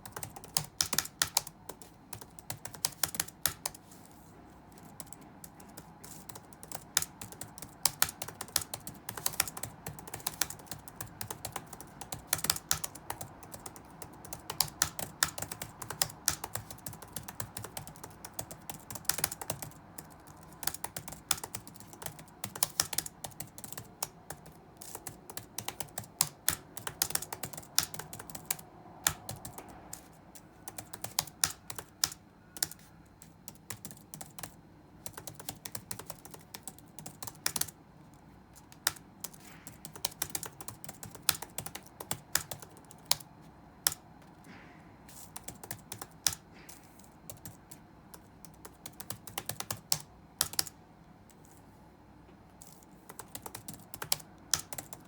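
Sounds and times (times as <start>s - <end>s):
keyboard typing: 0.0s - 51.4s, 52.6s - 55.0s
faint background hum: 0.0s - 55.0s.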